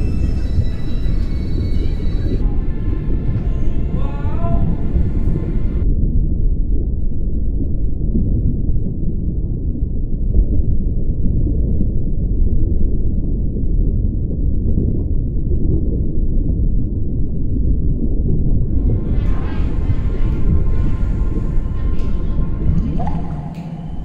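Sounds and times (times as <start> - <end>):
muffled deep rumble: 0.0 - 24.0.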